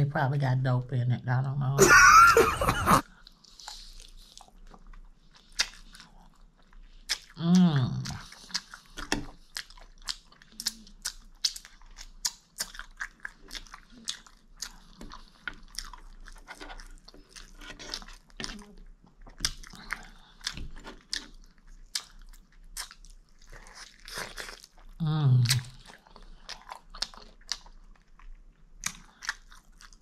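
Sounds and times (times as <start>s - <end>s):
crunching of fried food: 3.1s - 30.0s.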